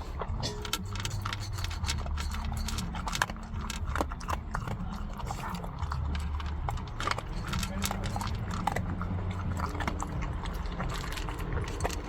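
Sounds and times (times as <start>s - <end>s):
low steady rumble: 0.0s - 12.0s
sharp clicks and crackles: 0.0s - 12.0s.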